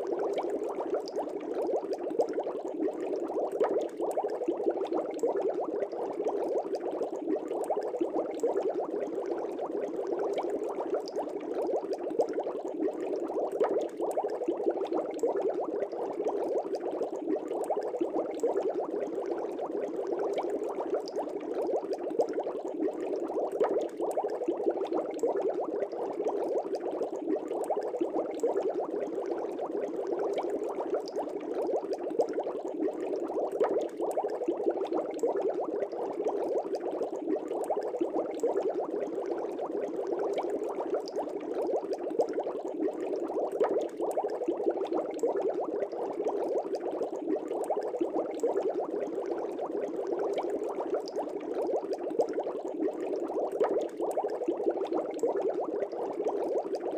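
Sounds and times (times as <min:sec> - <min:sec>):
air bubbles in fish tank: 0:00.0 - 0:56.9.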